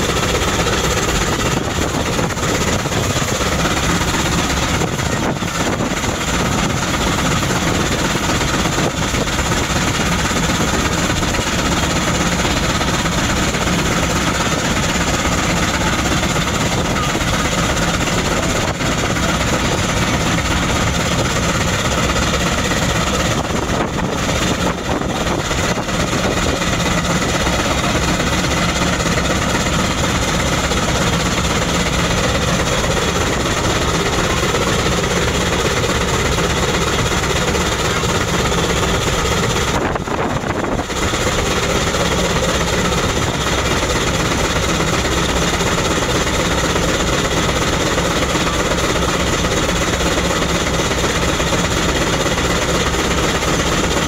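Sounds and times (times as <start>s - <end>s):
steam traction engine running: 0.0s - 54.0s.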